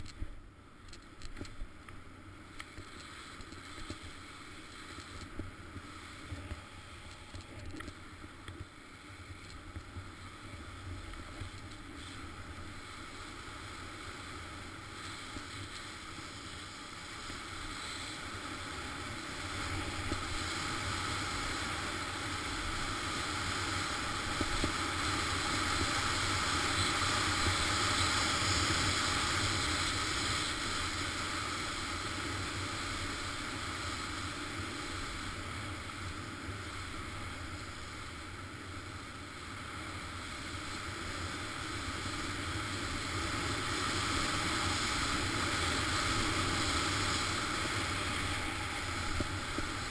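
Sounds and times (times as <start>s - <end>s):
skis running over snow: 1.4s - 49.9s.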